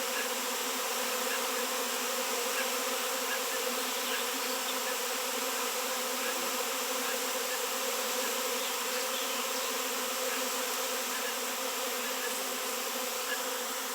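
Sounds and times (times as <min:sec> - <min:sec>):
swarm of bees buzzing: 0:00.0 - 0:13.9.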